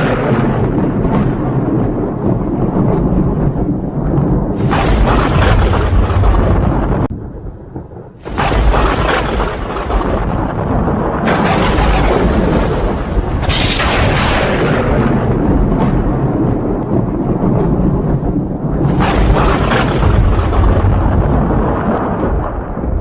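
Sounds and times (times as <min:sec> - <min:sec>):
sharp thunder cracks: 0:00.0 - 0:23.0
thunder clap and rumbling: 0:00.0 - 0:23.0.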